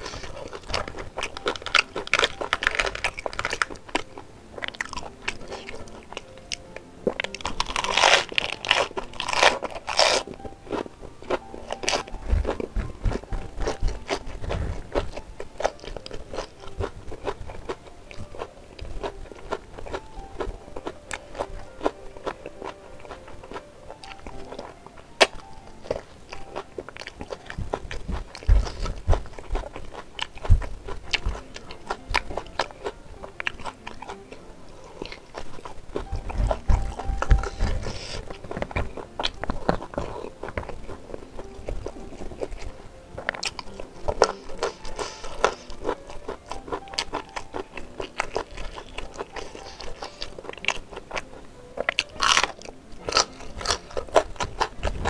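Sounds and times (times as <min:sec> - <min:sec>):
person chewing food: 0:00.0 - 0:55.0
quiet background music: 0:00.0 - 0:55.0.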